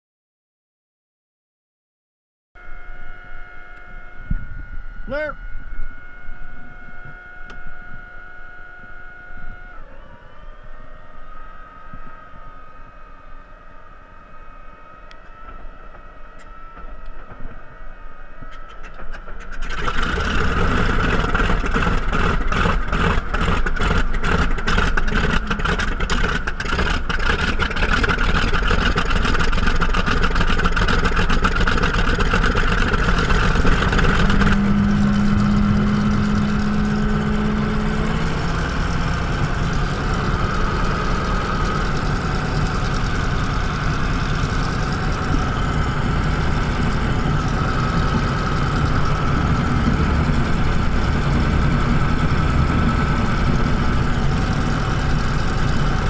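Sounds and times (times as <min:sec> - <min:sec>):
engine starter whine: 0:02.6 - 0:56.0
radial engine starting and idling: 0:02.6 - 0:56.0.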